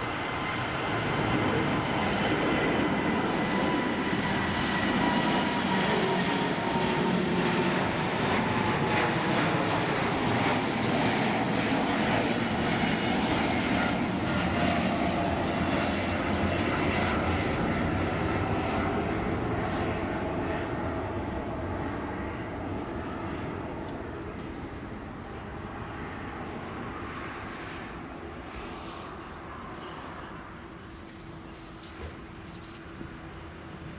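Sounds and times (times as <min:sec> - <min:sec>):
passing airliner jet engines: 0:00.0 - 0:33.9.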